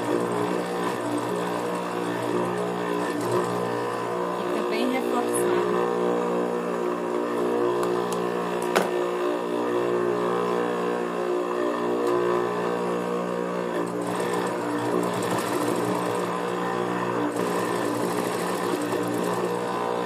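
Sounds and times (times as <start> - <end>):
sewing machine motor hum: 0.0 - 20.0.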